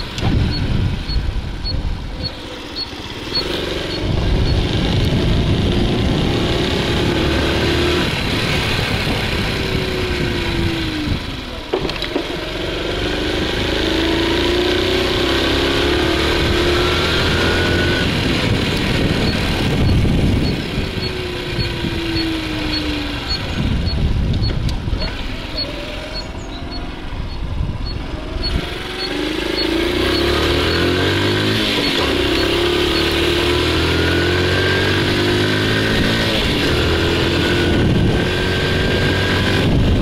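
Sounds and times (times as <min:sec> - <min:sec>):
small motorcycle engine revving: 0:00.0 - 0:40.0.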